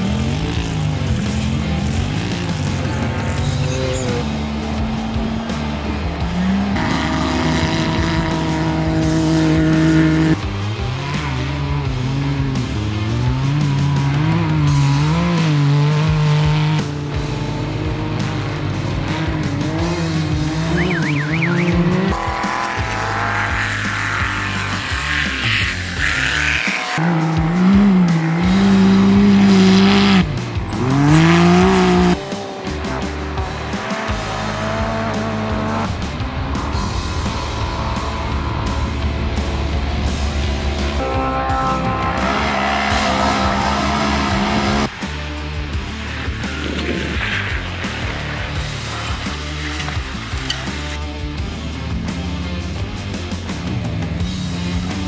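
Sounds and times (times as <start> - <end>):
music with steady beat: 0.0 - 55.0
race car engine revving: 0.0 - 55.0.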